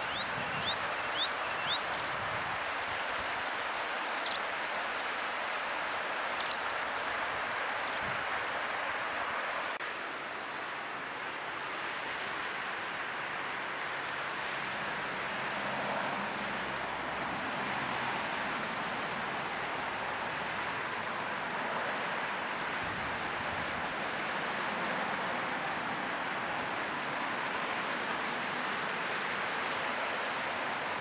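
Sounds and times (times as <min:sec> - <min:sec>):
river flowing: 0:00.0 - 0:31.0.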